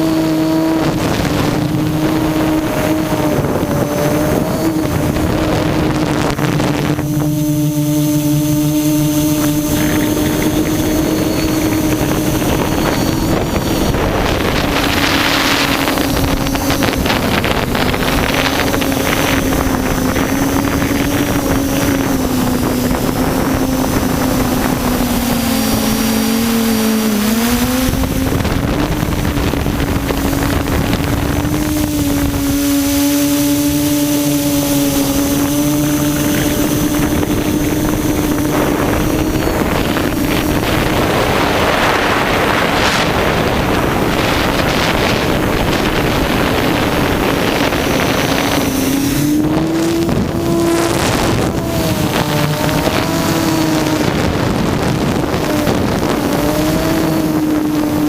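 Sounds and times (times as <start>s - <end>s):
drone propellers humming: 0.0s - 58.0s
wind buffeting microphone: 0.0s - 58.0s.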